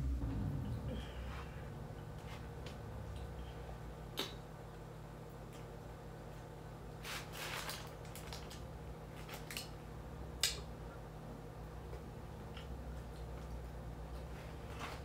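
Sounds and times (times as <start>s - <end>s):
steady low hum: 0.0s - 7.4s, 8.0s - 15.0s.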